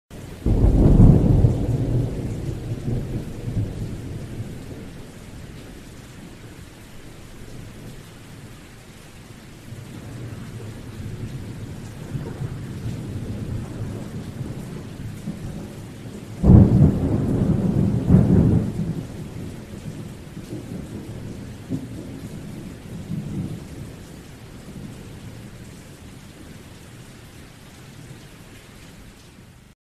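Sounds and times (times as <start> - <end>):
steady rain: 0.1 - 29.8
thunder rumbling: 0.3 - 8.5, 9.7 - 25.7.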